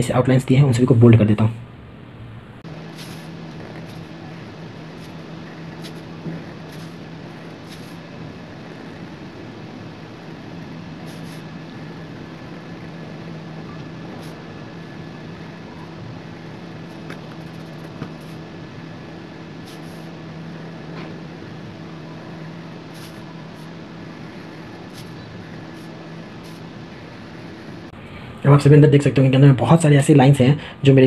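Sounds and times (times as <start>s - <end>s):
fan-like room noise: 0.0s - 31.0s
low electrical hum: 0.0s - 31.0s
pencil scratching on paper: 2.6s - 27.9s.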